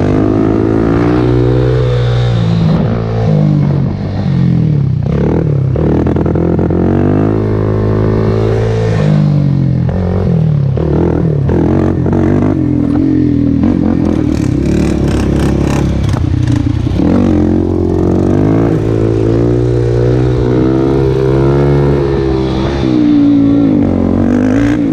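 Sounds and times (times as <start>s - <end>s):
quad engine revving: 0.0s - 24.9s.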